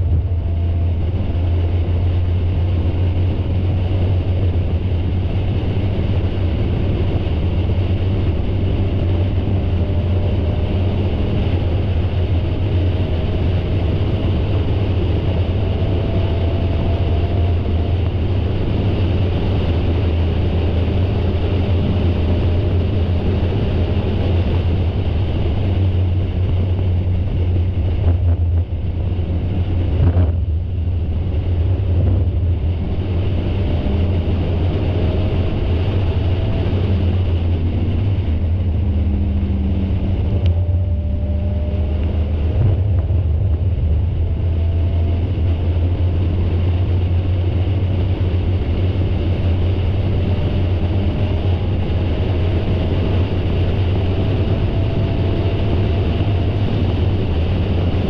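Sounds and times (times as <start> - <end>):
race car engine running hard: 0.0 - 58.0
wind rush: 0.0 - 58.0.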